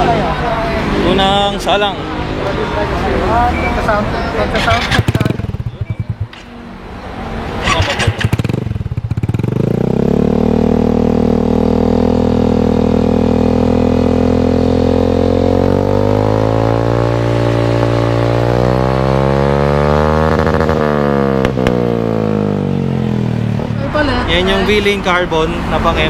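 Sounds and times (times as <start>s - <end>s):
scooter engine idling and revving: 4.3s - 26.0s.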